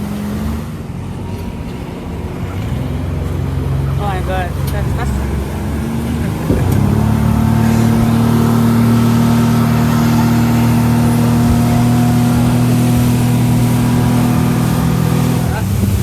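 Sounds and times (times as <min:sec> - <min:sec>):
motorboat engine at speed: 0:00.0 - 0:16.0.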